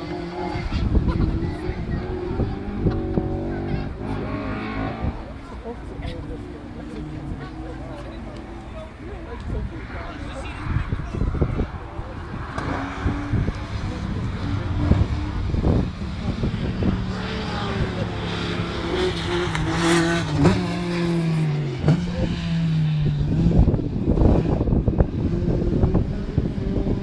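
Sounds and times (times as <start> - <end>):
wind buffeting microphone: 0.0 - 5.4, 8.8 - 27.0
rally car engine under load: 0.0 - 27.0.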